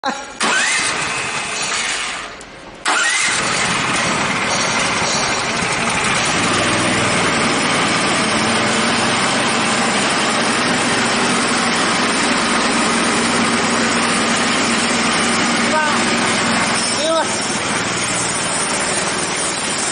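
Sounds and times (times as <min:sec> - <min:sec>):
band sawmill running: 0:02.9 - 0:19.9.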